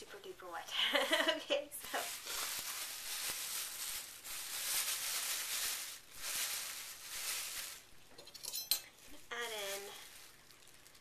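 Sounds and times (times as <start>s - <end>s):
plastic bag rustling: 0.9s - 8.2s, 8.9s - 11.0s.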